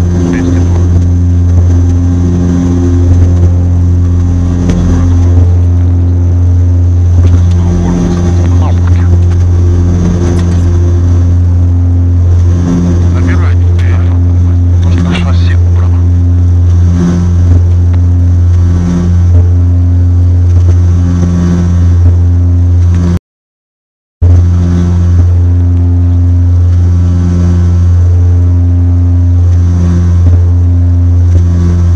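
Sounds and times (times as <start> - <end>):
turboprop engines droning: 0.0 - 23.2, 24.2 - 31.9.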